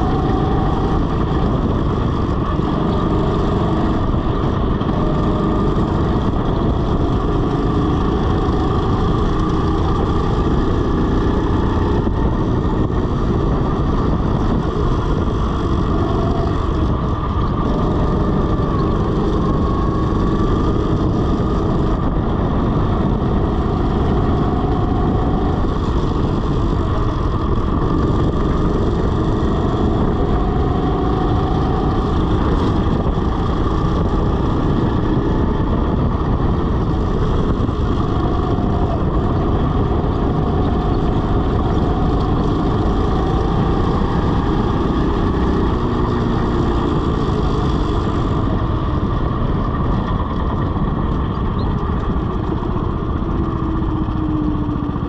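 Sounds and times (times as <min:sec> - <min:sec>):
go-kart motor running: 0:00.0 - 0:55.0
wind buffeting: 0:00.0 - 0:55.0.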